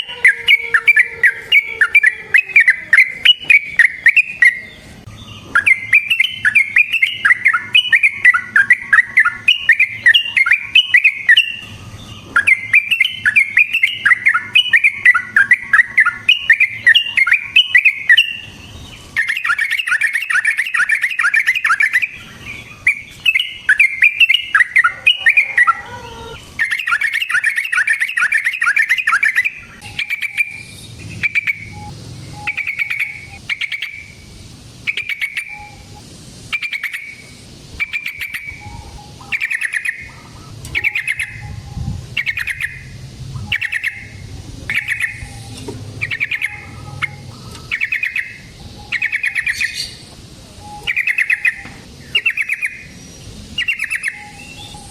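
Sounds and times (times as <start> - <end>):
bulbul singing: 0.0 - 54.9.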